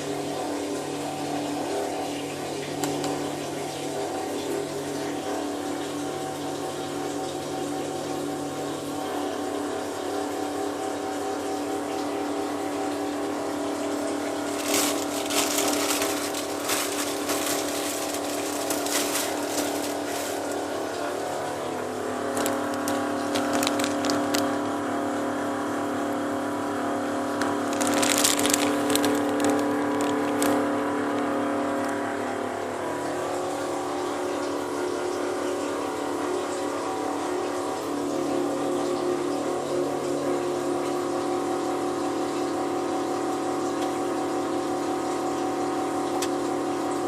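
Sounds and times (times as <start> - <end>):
boiler droning hum: 0.0 - 47.0.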